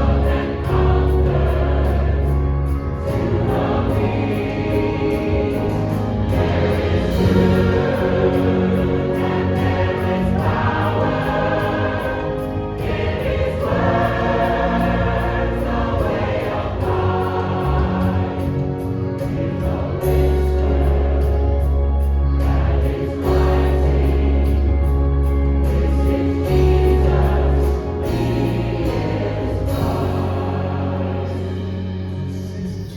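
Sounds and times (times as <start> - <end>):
choir singing: 0.0 - 32.9.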